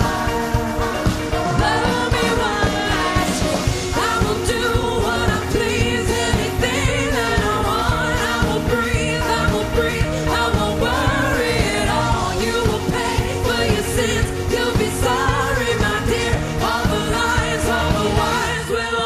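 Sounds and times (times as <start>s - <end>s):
pop-rock band playing: 0.0s - 19.0s
woman singing into microphone: 0.0s - 19.0s.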